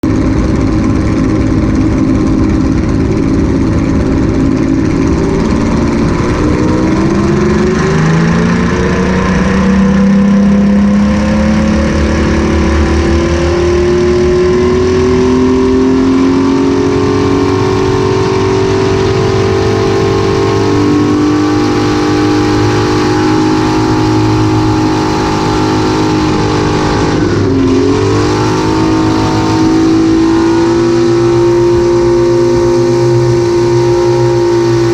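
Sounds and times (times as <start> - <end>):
aircraft piston engine running: 0.0 - 34.9.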